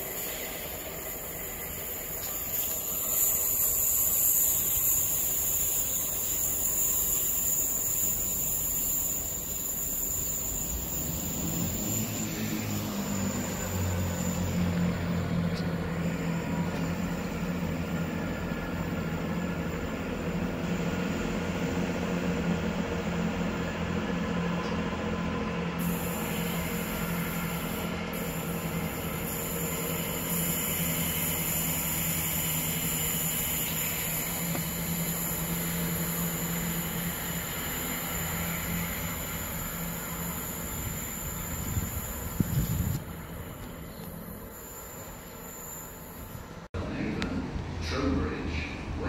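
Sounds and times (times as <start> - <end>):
diesel train engines droning: 0.0 - 49.0
train passing with hiss and rush: 0.0 - 49.0.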